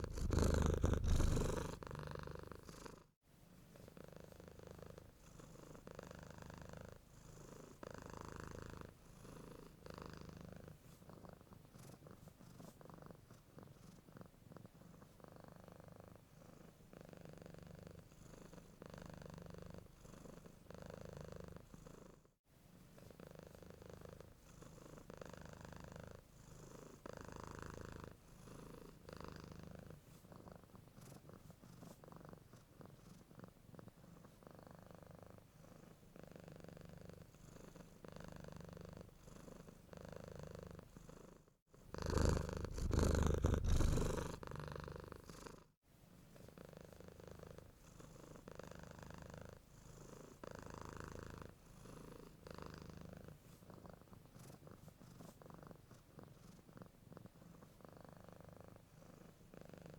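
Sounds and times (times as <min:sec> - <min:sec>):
cat purring: 0:00.0 - 0:22.3, 0:22.9 - 0:59.9.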